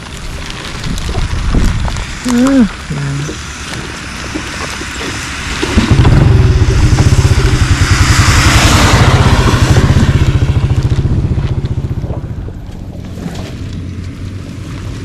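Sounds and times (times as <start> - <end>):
small engine puttering: 0.0 - 15.0.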